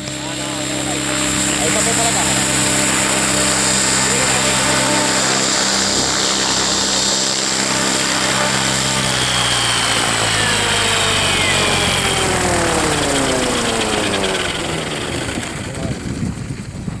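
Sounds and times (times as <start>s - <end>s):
rc helicopter rotor whirring: 0.0s - 17.0s.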